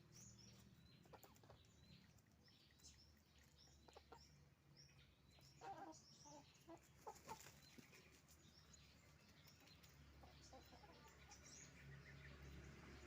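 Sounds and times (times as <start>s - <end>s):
chickens clucking: 0.4s - 11.9s.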